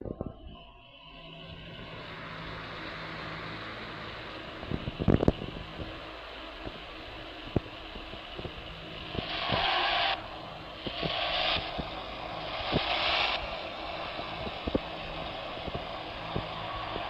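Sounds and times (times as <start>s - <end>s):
car road noise: 0.0s - 17.0s
short bursts of hiss: 2.0s - 17.0s.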